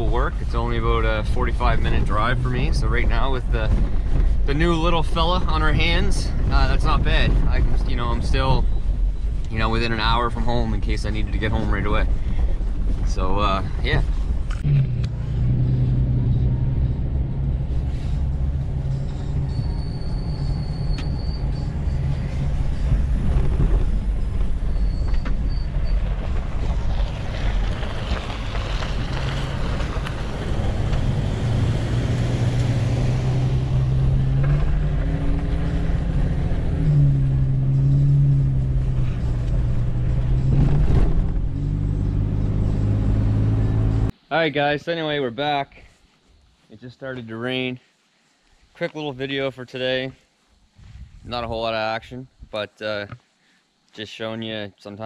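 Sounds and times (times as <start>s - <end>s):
car engine hum: 0.0s - 44.1s
road rumble inside car: 0.0s - 44.2s.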